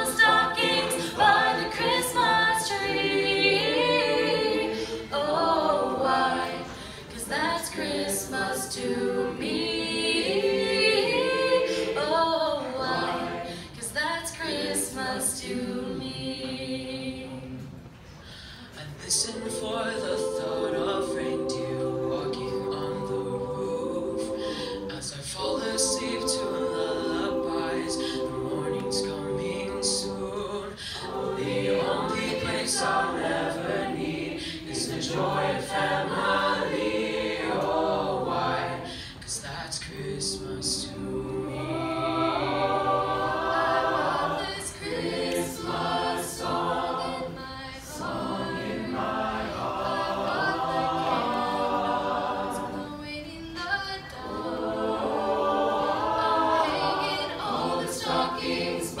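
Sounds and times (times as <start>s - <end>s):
choir singing a cappella: 0.0s - 18.0s, 18.6s - 59.0s.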